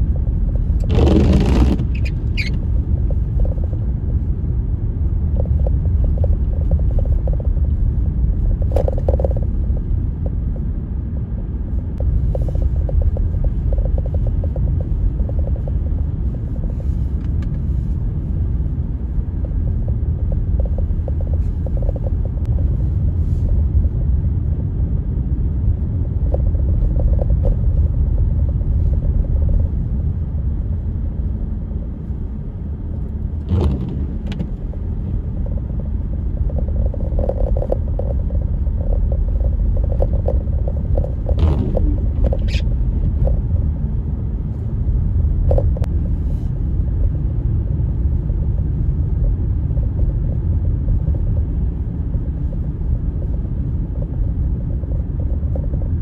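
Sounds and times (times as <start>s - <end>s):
blizzard wind buffeting microphone: 0.0s - 56.0s.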